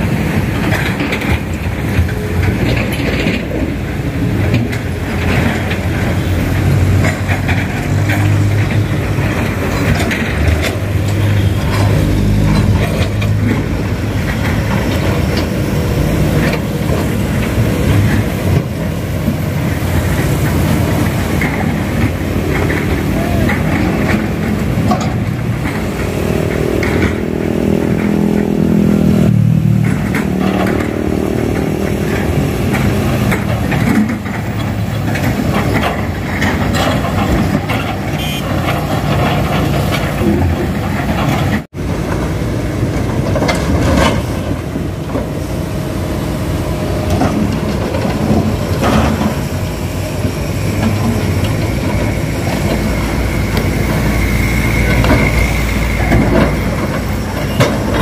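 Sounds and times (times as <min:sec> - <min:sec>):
excavator diesel engines running: 0:00.0 - 0:58.0.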